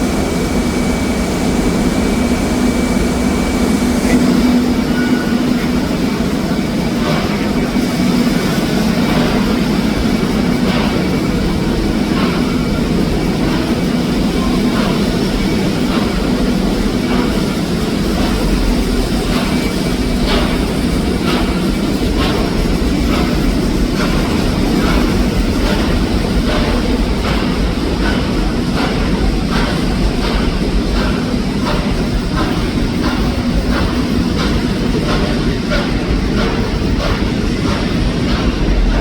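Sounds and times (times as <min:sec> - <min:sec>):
train rumbling and rattling: 0:00.0 - 0:39.0.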